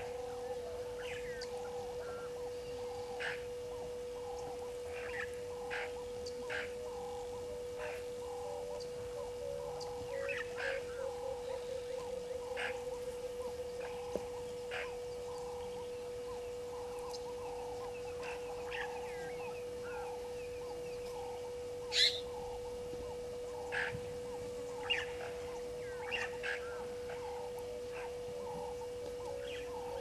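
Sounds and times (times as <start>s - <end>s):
birds chirping and calling: 0.0s - 30.0s
faint steady hum: 0.0s - 30.0s.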